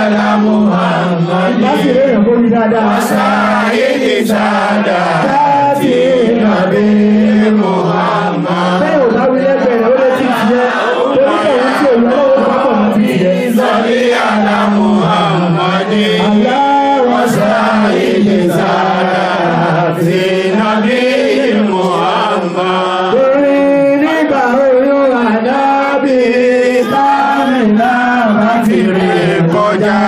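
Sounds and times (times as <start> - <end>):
man chanting devotional song: 0.0 - 30.0.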